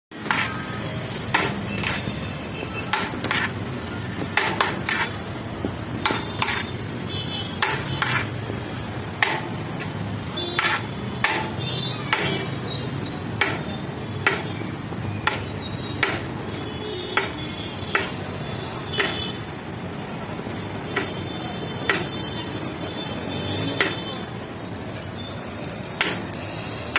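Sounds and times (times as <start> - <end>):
steady background noise: 0.1 - 26.9.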